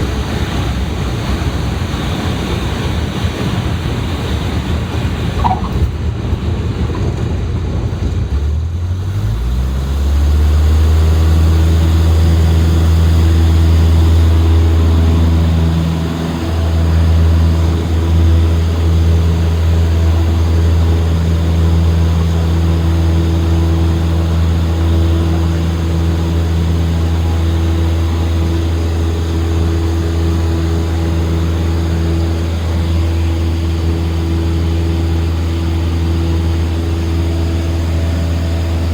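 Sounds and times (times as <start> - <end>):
airplane engine and propeller: 0.0 - 38.9.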